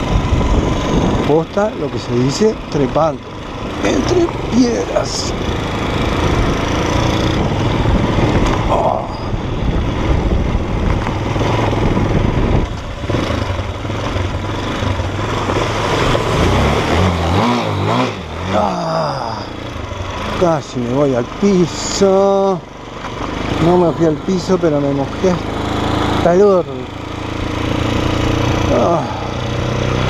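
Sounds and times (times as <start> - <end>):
continuous rushing noise: 0.0 - 30.0
motorcycle engine under load: 0.0 - 30.0.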